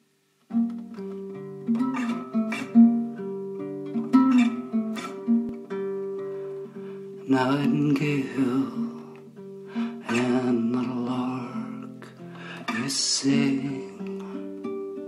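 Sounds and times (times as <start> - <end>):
acoustic guitar plucking chords: 0.0 - 15.0.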